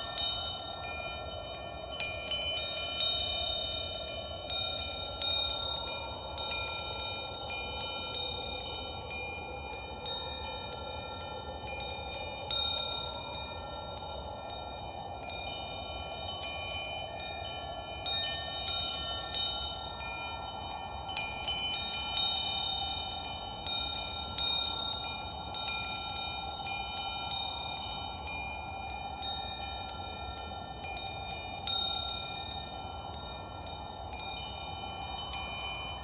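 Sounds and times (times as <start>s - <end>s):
steady hiss: 0.0s - 36.0s
wind chimes ringing: 0.0s - 36.0s.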